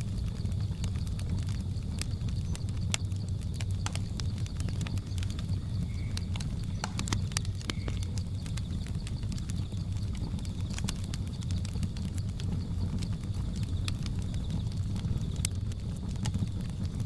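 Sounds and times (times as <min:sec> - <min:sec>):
insects droning: 0:00.0 - 0:17.0
wood fire crackling: 0:00.0 - 0:17.0.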